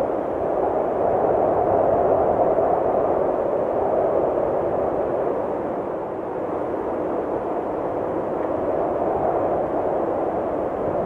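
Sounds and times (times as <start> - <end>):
steady wind blowing: 0.0 - 11.0.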